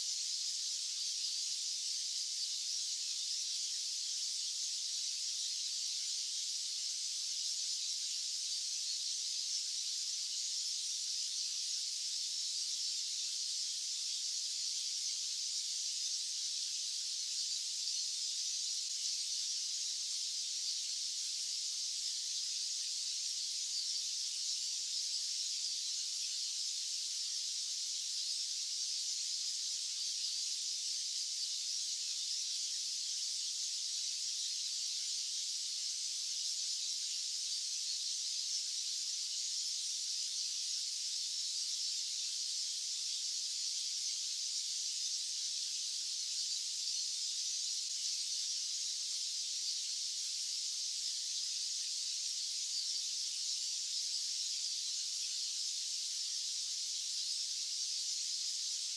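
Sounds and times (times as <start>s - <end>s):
high-pitched white noise hiss: 0.0s - 58.9s.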